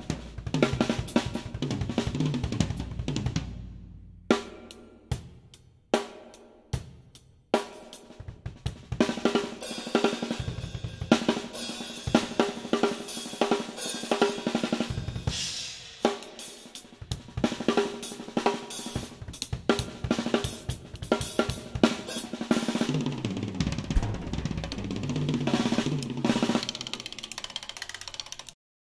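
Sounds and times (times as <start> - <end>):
drum kit playing: 0.0 - 27.5.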